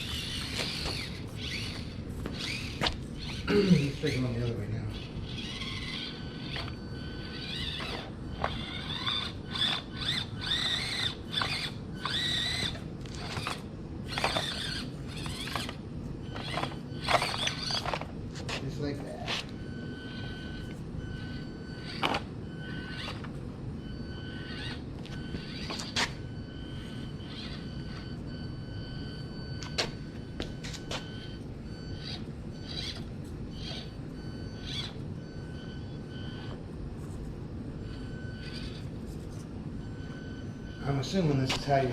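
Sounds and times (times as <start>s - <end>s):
small electric motor whining: 0.0s - 37.2s, 37.8s - 41.9s.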